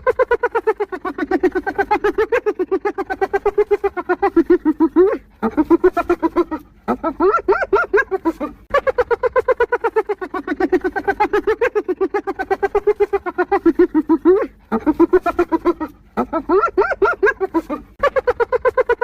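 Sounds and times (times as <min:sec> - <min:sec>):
hyena giggling hoots: 0:00.0 - 0:19.0.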